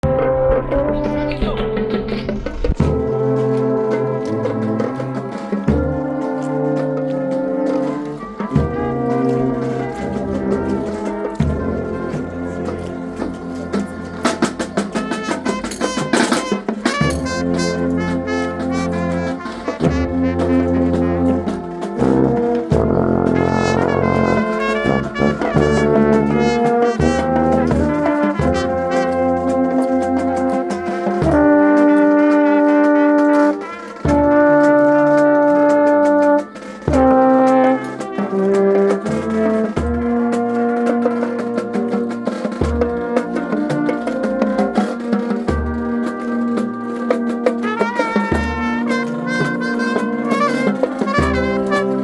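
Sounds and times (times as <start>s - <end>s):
brass band playing: 0.0s - 52.0s
drum strikes: 0.0s - 52.0s.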